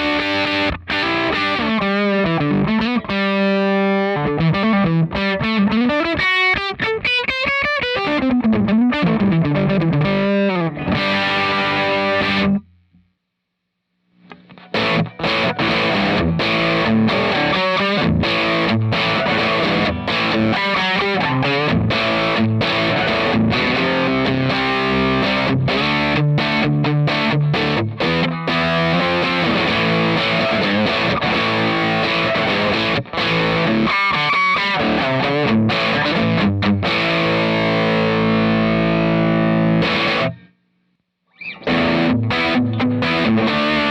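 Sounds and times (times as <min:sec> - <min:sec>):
distorted electric guitar chord riffing: 0:00.0 - 0:12.9, 0:14.3 - 0:40.6, 0:41.5 - 0:43.9
distorted electric guitar lead runs: 0:00.0 - 0:12.9, 0:14.2 - 0:40.5, 0:41.4 - 0:43.9.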